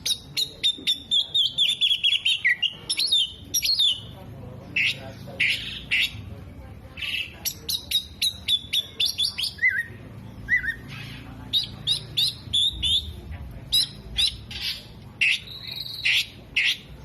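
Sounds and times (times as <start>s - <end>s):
songbird singing sharp chirps: 0.0s - 6.4s, 7.0s - 17.0s.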